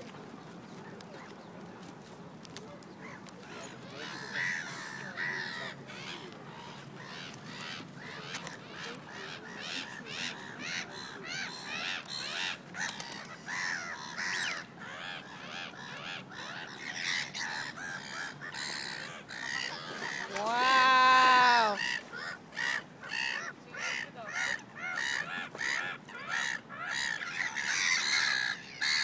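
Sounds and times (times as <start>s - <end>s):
birds calling: 0.4s - 29.0s.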